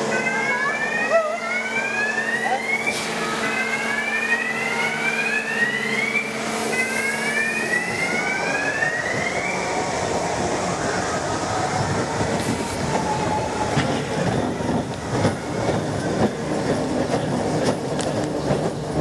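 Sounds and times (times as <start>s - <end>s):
rising siren-like whoops: 0.0s - 16.2s
indoor station background noise: 0.0s - 19.0s.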